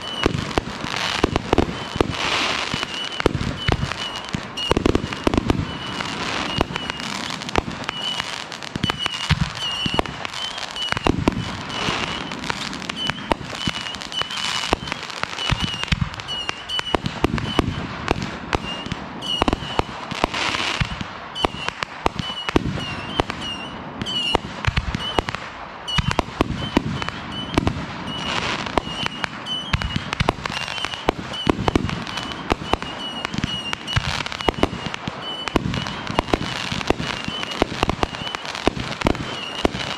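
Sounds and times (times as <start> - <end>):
fireworks popping and crackling: 0.0 - 39.9
heavy firework booms: 0.0 - 39.9.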